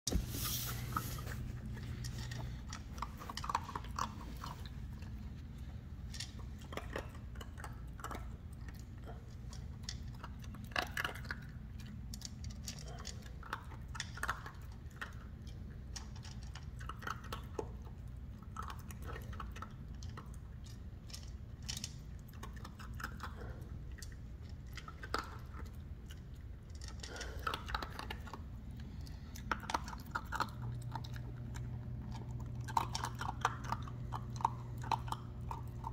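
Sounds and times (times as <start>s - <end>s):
dog crunching dry kibble: 0.5s - 35.9s.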